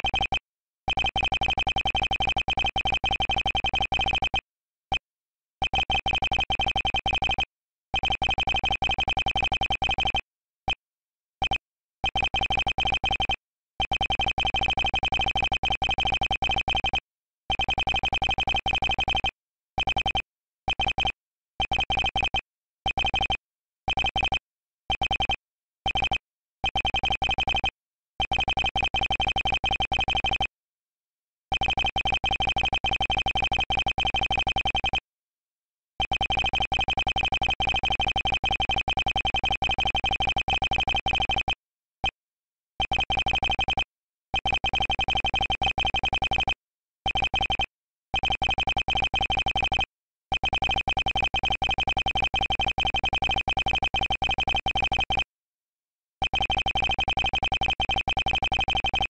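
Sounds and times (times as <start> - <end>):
rapid electronic text beeps: 0.0 - 5.0, 5.6 - 7.3, 8.0 - 9.9, 11.4 - 30.5, 31.5 - 35.0, 36.0 - 42.2, 42.8 - 43.8, 44.4 - 47.6, 48.2 - 49.4, 50.4 - 55.2, 56.2 - 59.0.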